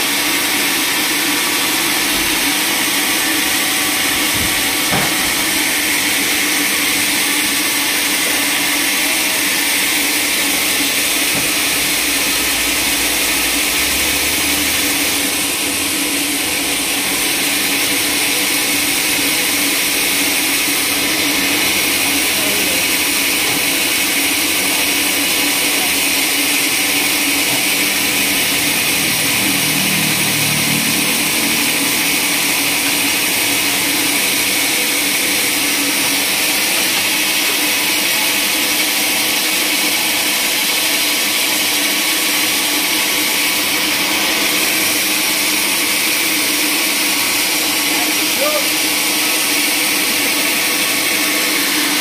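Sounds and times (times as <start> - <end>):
sawmill machinery humming: 0.0 - 52.0.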